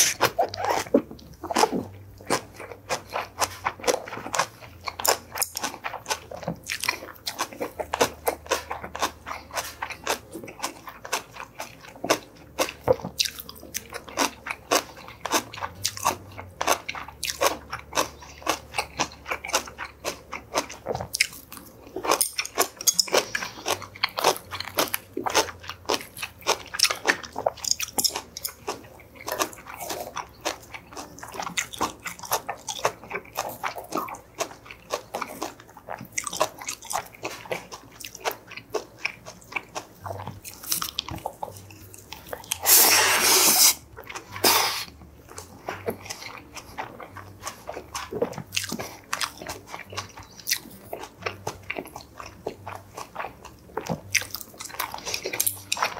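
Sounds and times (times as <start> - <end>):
man chewing food: 0.0 - 55.9.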